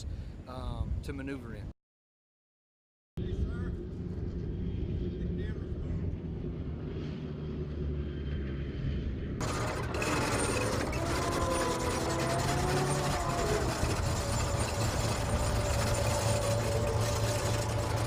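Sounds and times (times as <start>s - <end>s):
wavering whine: 3.2s - 18.0s
heavy vehicle engine running: 3.4s - 18.0s.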